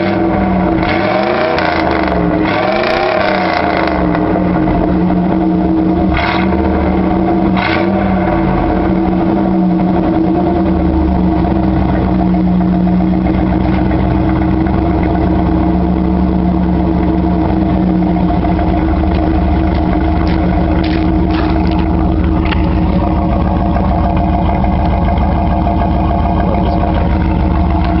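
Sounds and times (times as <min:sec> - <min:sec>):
loud car engine running: 0:00.0 - 0:28.0.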